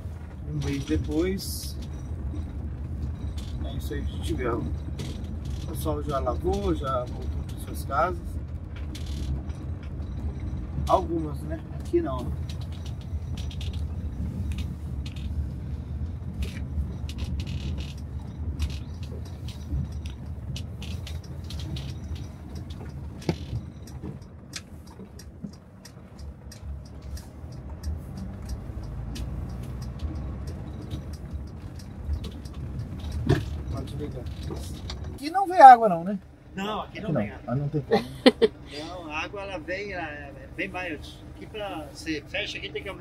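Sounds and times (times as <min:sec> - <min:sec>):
car engine and road rumble: 0:00.0 - 0:43.0
small ticks and rattles: 0:00.2 - 0:35.2.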